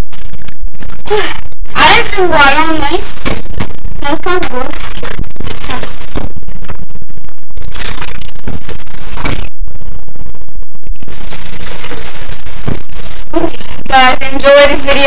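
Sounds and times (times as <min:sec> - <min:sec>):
distorted crackling noise: 0:00.0 - 0:15.0.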